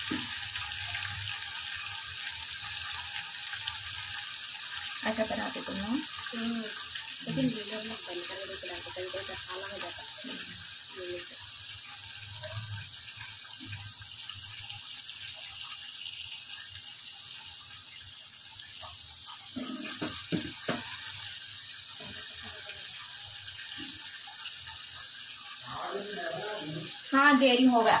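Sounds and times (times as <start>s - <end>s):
oil and gravy sizzling: 0.0s - 28.0s.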